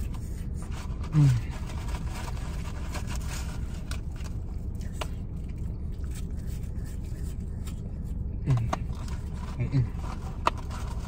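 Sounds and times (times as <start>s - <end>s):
fingers rustling in paperboard carton: 0.0s - 11.0s
steady low hum: 0.0s - 11.0s.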